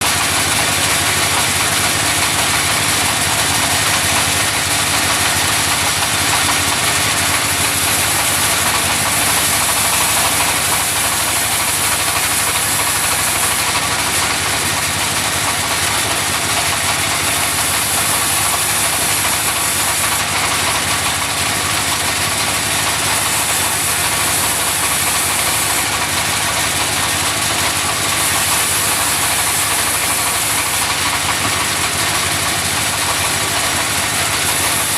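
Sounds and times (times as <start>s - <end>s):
sawmill machinery drone: 0.0s - 34.9s.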